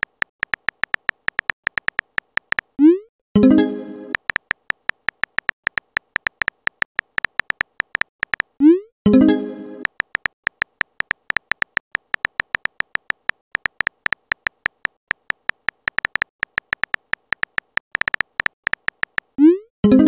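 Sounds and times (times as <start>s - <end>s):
phone keyboard typing clicks: 0.0s - 2.8s, 4.1s - 8.7s, 9.8s - 19.4s.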